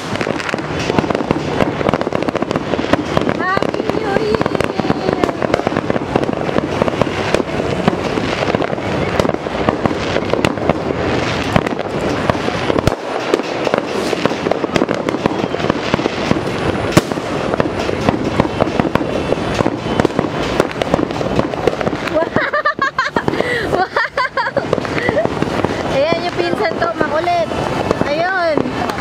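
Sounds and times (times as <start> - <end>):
fireworks crackling and banging: 0.0 - 29.0
sharp firework bang: 0.0 - 29.0.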